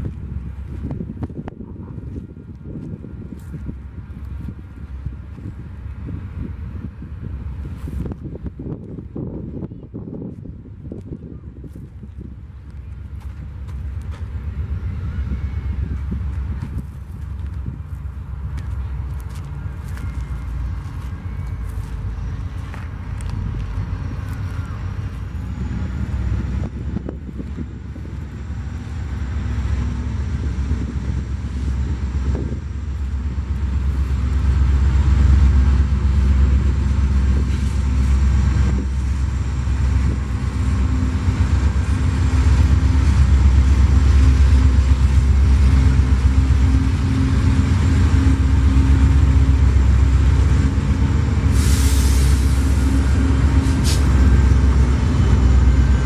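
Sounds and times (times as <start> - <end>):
diesel locomotive engine drone: 0.0 - 56.0
train rumbling over rails: 0.0 - 56.0.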